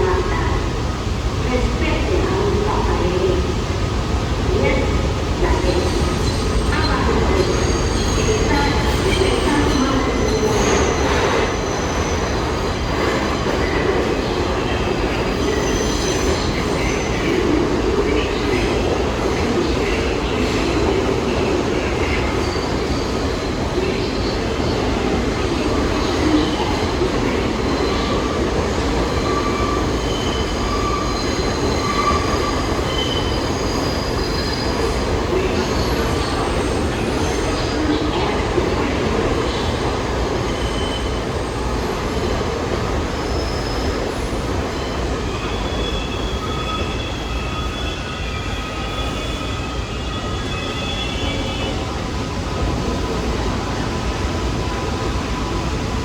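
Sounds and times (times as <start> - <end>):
subway train rumbling: 0.0 - 56.0.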